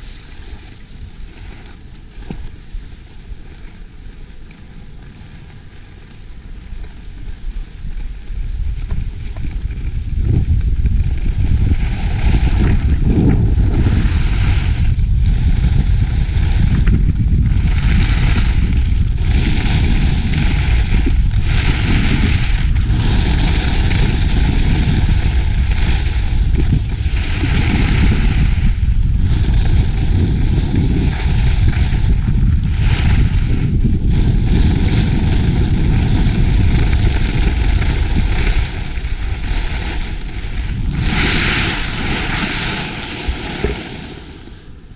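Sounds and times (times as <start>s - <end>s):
skis hissing on snow: 0.0s - 44.9s
wind buffeting microphone: 5.8s - 44.9s.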